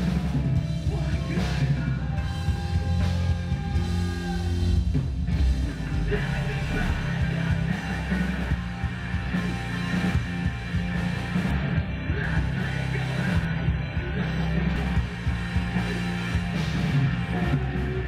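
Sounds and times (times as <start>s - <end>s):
loud rock music with guitar: 0.0s - 18.0s.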